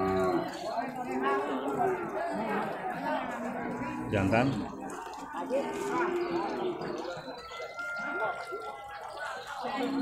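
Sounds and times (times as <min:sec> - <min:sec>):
people talking: 0:00.0 - 0:10.0.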